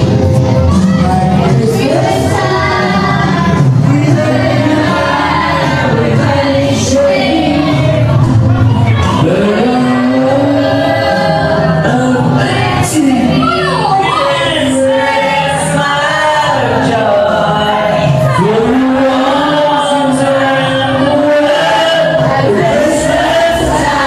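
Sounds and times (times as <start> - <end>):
group singing into karaoke microphones: 0.0 - 24.0
karaoke backing music: 0.0 - 24.0.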